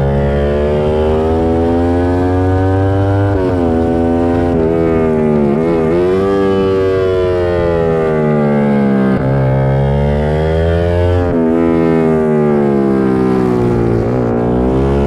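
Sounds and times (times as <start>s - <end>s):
motorcycle gearchange: 0.0s - 15.0s
racing motorcycle engine: 0.0s - 15.0s.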